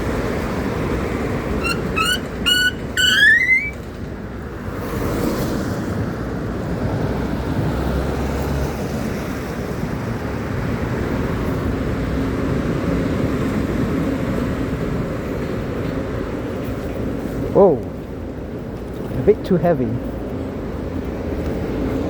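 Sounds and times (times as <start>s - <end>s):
tyres on wet road: 0.0s - 22.0s.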